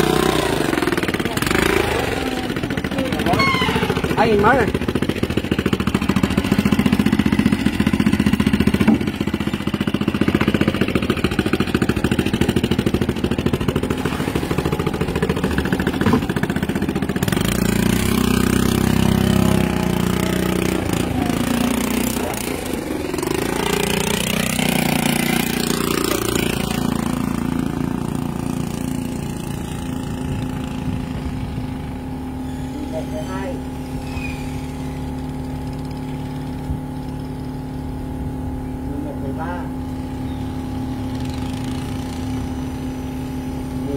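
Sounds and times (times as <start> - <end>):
engine chugging and humming: 0.0 - 43.9.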